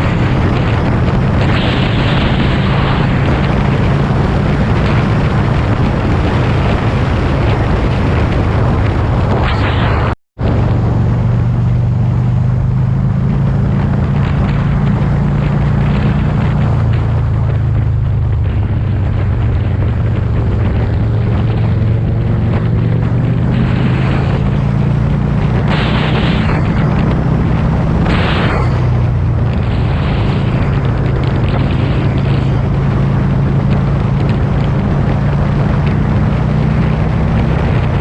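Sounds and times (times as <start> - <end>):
vehicle engine hum: 0.0 - 38.0
wind and road noise: 0.0 - 38.0.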